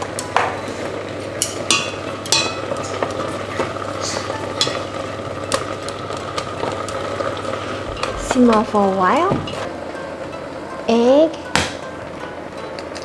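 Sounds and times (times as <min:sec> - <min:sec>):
broth bubbling in a saucepan: 0:00.0 - 0:10.7.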